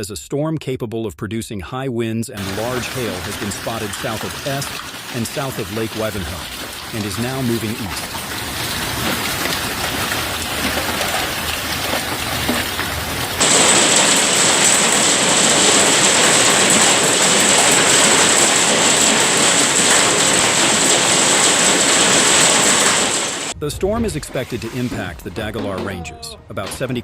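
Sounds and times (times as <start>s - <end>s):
heavy rain pouring: 2.4s - 26.0s.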